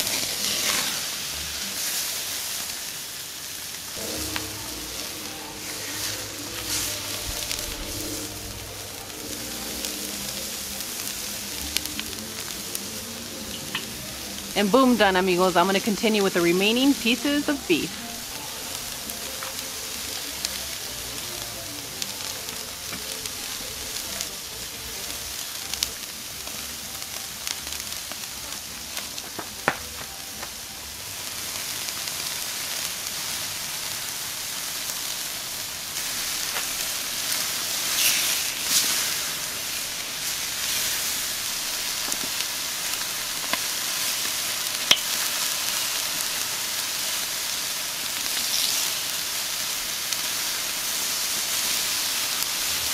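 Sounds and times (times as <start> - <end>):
steak sizzling on a grill: 0.0 - 52.9.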